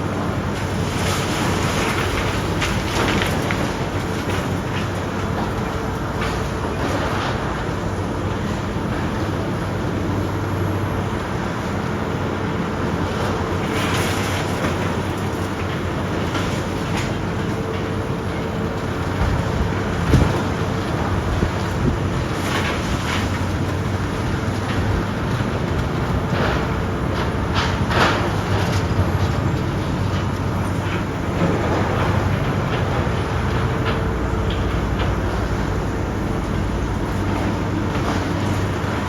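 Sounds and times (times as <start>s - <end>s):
concrete debris crunching: 0.0s - 7.9s, 13.1s - 39.0s
demolition machinery engine hum: 0.0s - 39.0s.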